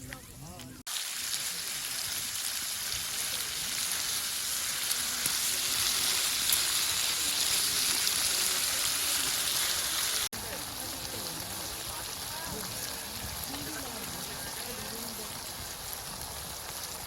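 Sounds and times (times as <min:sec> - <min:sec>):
meat sizzling in a pan: 0:00.9 - 0:17.0.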